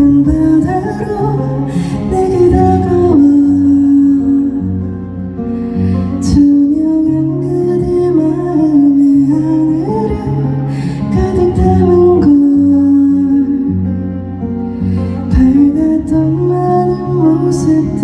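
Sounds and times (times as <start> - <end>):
woman singing: 0.0 - 5.2, 5.8 - 14.3, 15.0 - 18.0
guitar accompaniment: 0.0 - 18.0.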